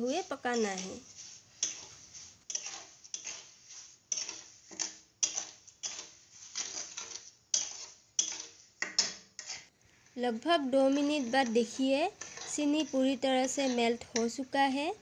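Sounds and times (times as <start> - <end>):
metal spatula scraping pan: 0.0 - 15.0.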